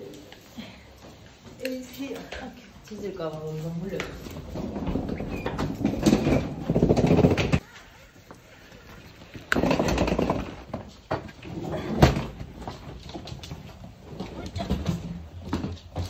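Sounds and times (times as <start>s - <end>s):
suitcase wheels rolling on floor: 0.8s - 16.0s.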